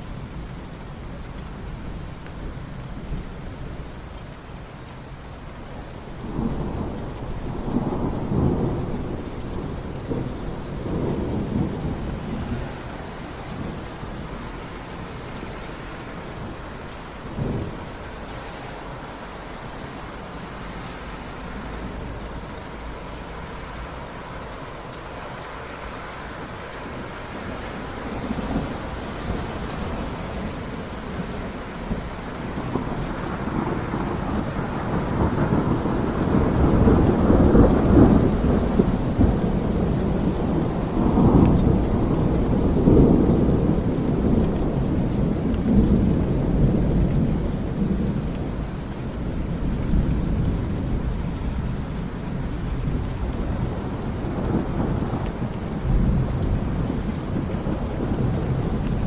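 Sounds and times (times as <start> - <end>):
rain hissing: 0.0 - 59.0
thunder rolling: 6.2 - 24.7, 26.4 - 59.0.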